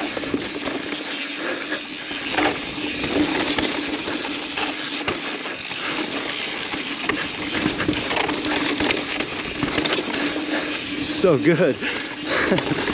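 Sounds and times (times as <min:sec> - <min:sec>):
bike freewheel buzzing: 0:00.0 - 0:12.9
bike rattling and knocking: 0:00.0 - 0:12.9
tyre noise on dirt: 0:00.0 - 0:12.9.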